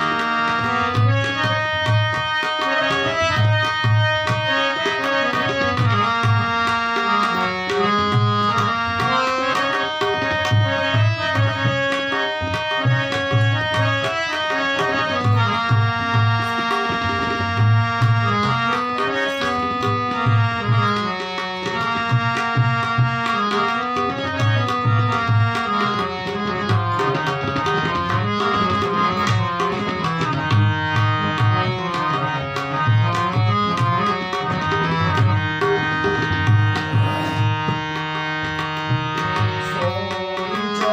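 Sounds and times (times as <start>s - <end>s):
harmonium melody: 0.0s - 40.9s
tabla playing rhythm: 0.0s - 40.9s.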